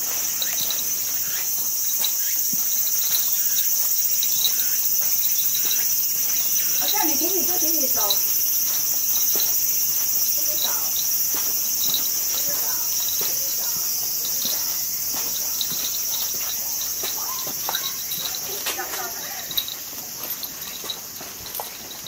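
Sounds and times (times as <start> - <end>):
shrill insect chorus: 0.0 - 22.0.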